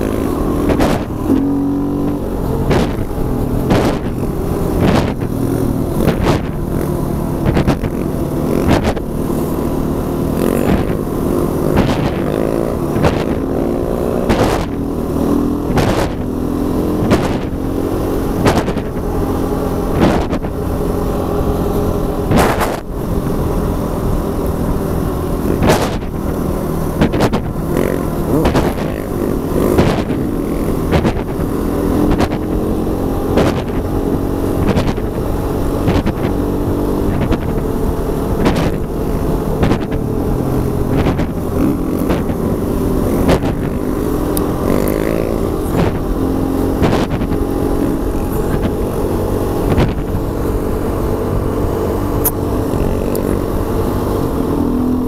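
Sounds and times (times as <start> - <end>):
dirt bike engine running: 0.0 - 55.0
wind buffeting microphone: 0.0 - 55.0.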